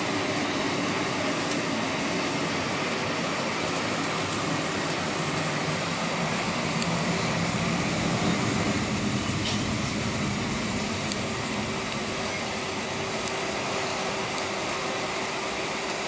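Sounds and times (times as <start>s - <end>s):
airplane cabin hum: 0.0s - 16.0s.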